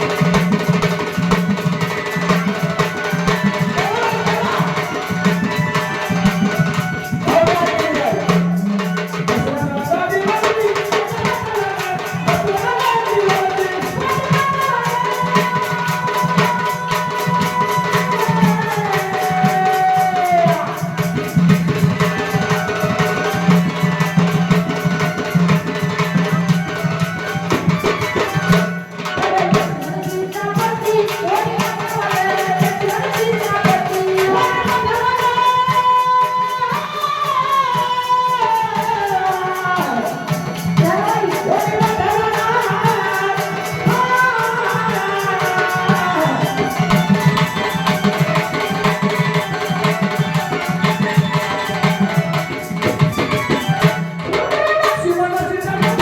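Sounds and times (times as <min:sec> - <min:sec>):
tabla and percussion beat: 0:00.0 - 0:56.0.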